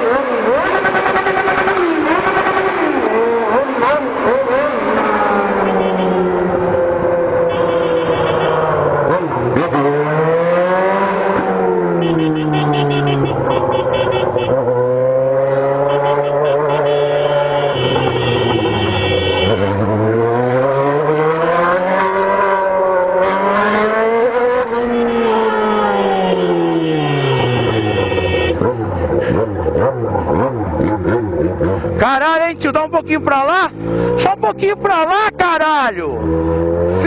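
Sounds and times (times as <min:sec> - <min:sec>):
motorcycle engine accelerating: 0:00.0 - 0:35.4, 0:36.1 - 0:37.0.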